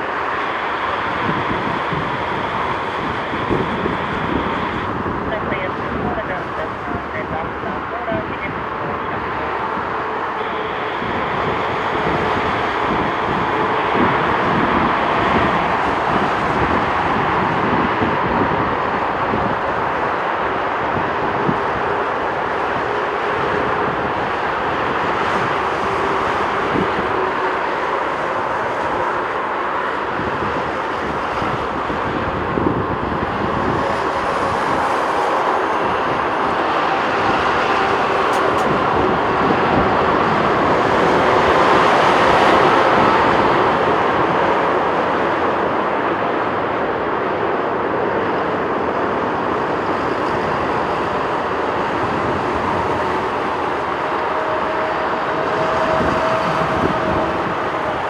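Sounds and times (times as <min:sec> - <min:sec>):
jet airliner engine noise: 0:00.0 - 0:58.0.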